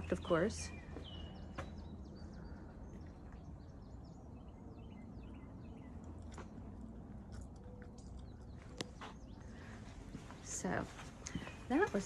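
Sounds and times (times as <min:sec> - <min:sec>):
low outdoor background noise: 0:00.0 - 0:12.0
small birds chirping: 0:00.0 - 0:12.0.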